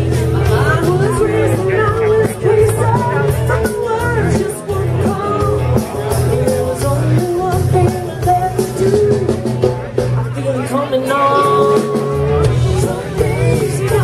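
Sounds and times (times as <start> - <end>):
drums beating: 0.0 - 14.0
live rock band playing: 0.0 - 14.0
person singing: 0.0 - 14.0.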